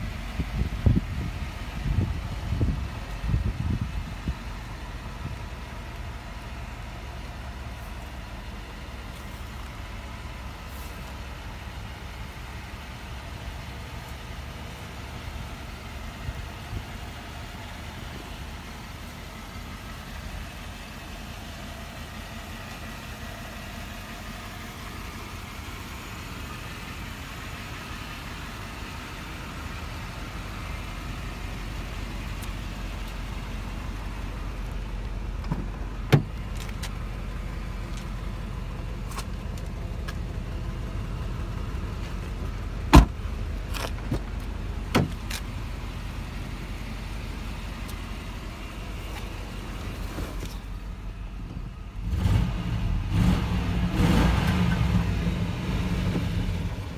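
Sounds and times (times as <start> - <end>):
car engine idling: 0.0 - 56.9.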